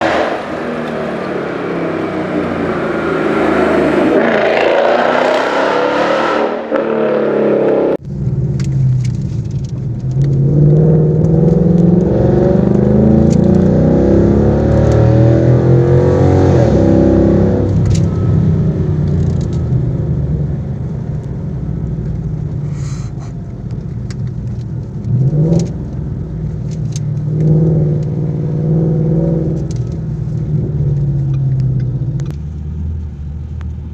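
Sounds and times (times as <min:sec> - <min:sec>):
car engine revving and accelerating: 0:00.0 - 0:08.0, 0:10.0 - 0:21.0, 0:25.0 - 0:33.4.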